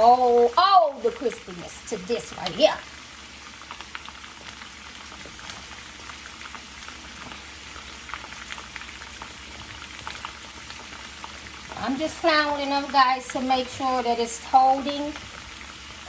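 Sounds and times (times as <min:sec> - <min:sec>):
hot oil sizzling: 0:00.0 - 0:16.0.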